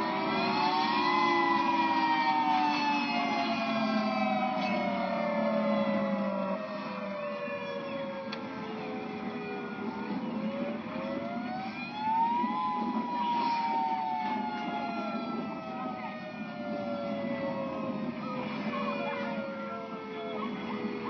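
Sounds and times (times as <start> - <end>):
tornado siren wailing: 0.0 - 21.0.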